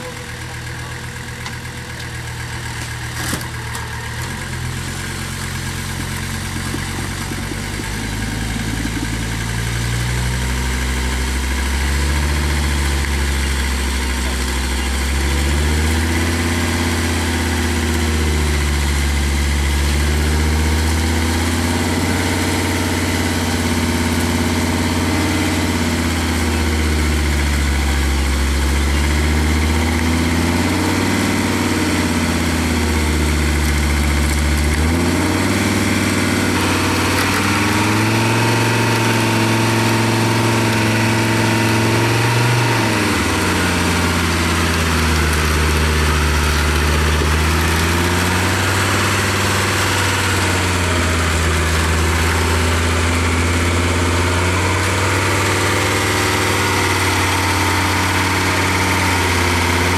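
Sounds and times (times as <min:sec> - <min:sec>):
truck engine at low speed: 0:00.0 - 0:59.9.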